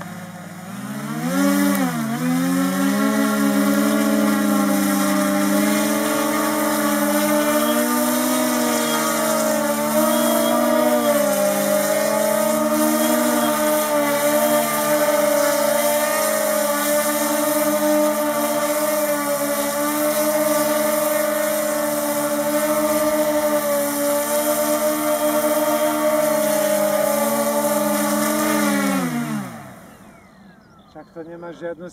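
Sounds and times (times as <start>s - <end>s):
drone propellers humming: 0.0s - 31.9s.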